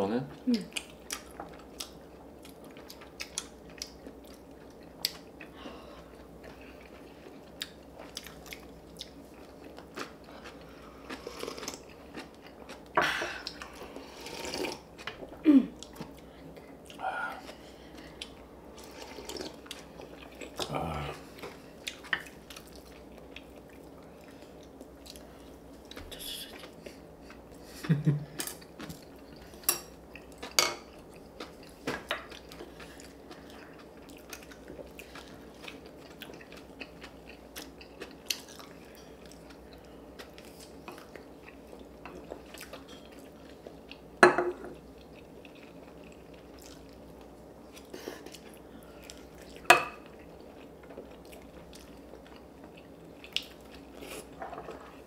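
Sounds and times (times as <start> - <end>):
faint steady hum: 0.0 - 55.0
chewing: 0.7 - 44.1, 44.7 - 55.0.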